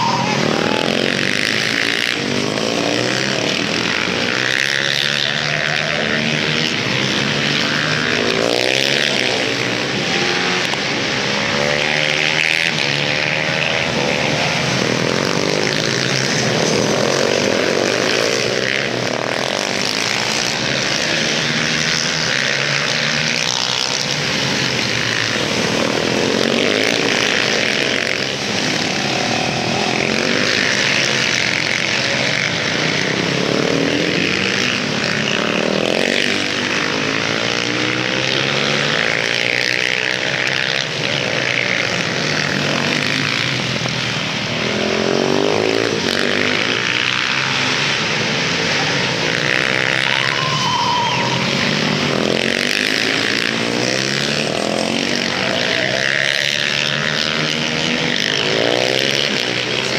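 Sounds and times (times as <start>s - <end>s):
motorcycle engines revving: 0.0s - 59.9s.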